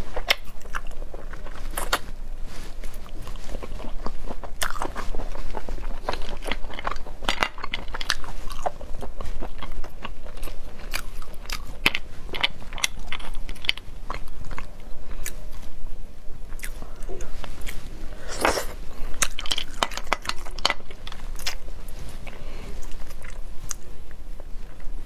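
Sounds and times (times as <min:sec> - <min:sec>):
chewing: 0:00.0 - 0:15.8, 0:16.5 - 0:25.0.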